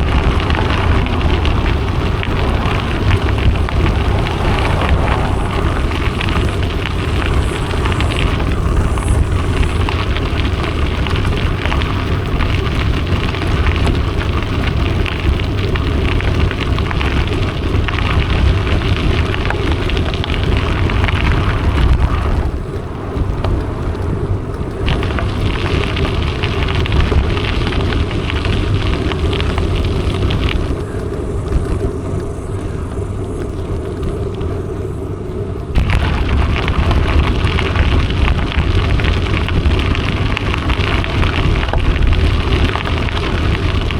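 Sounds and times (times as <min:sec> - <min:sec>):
bike tyres crackling: 0:00.0 - 0:43.9
wind rumbling on microphone: 0:00.0 - 0:43.9.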